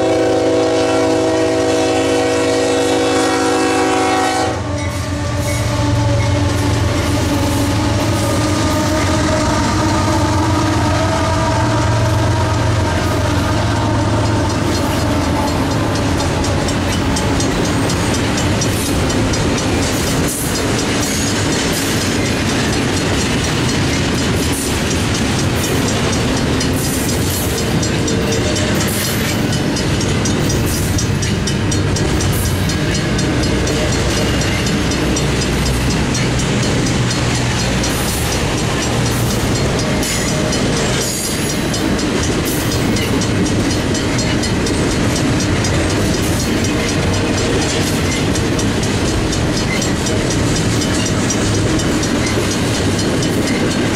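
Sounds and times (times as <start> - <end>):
crossing bell ringing: 0.0 - 53.9
train wheels on rails: 0.0 - 53.9
wheels clacking over rail joints: 0.0 - 53.9.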